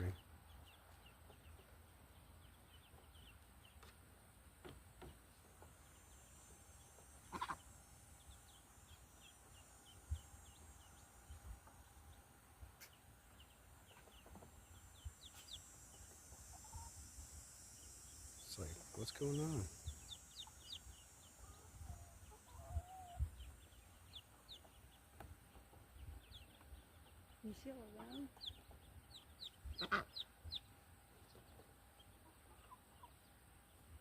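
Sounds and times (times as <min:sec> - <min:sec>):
chickens clucking faintly: 0:00.0 - 0:34.0.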